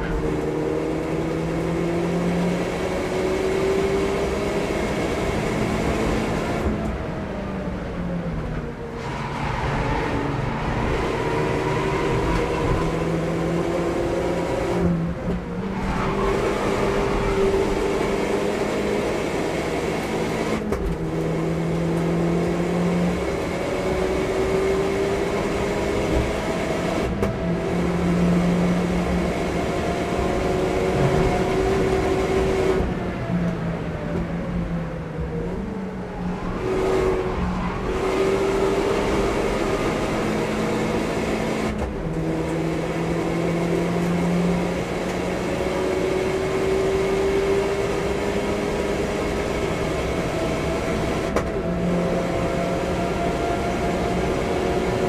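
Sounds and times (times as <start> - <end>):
car engine accelerating: 0.0 - 55.0
road and tyre noise: 0.0 - 55.0.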